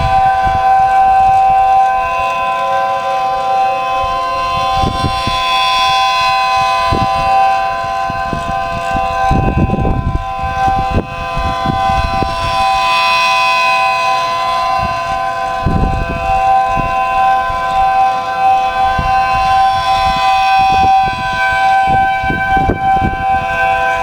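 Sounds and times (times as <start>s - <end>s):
siren dual-tone chord: 0.0s - 24.0s
wind buffeting microphone: 0.0s - 24.0s.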